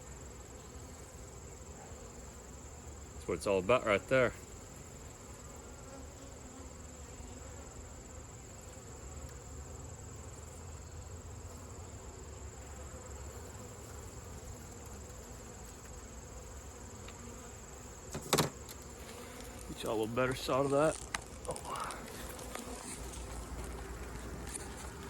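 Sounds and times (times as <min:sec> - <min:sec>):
high-pitched insect whine: 0:00.0 - 0:25.0
honeybees buzzing: 0:00.0 - 0:25.0.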